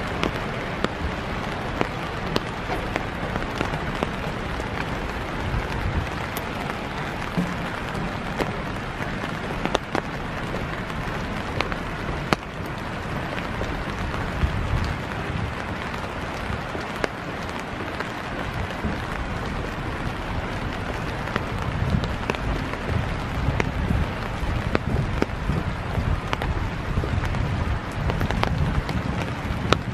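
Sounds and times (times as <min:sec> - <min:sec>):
raindrops ticking close by: 0:00.0 - 0:29.9
steady rain hiss: 0:00.0 - 0:29.9.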